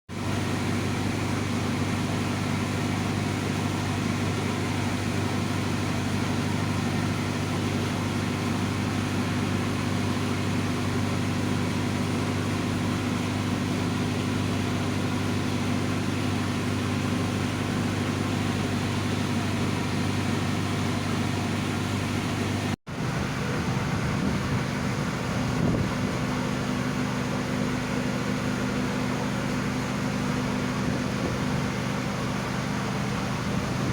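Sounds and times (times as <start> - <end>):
ship engines droning: 0.2 - 33.9.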